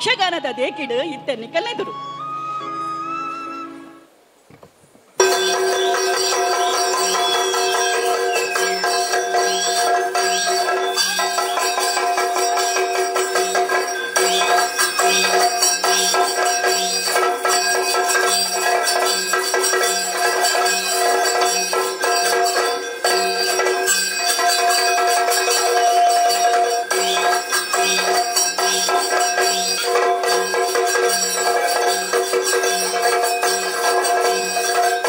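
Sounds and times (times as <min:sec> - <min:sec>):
driving drum rhythm: 0:05.2 - 0:35.0
jingling bells and cymbals: 0:05.2 - 0:35.0.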